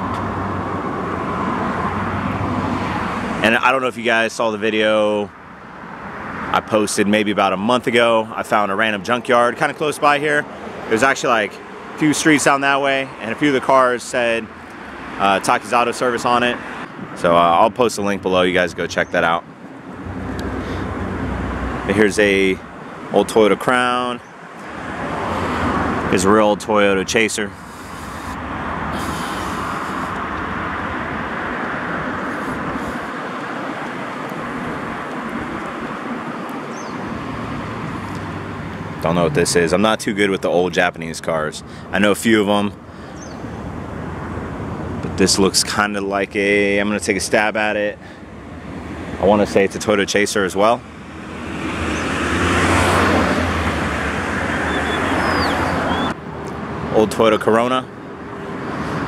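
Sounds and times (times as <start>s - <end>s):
road traffic hiss: 0.0s - 59.0s.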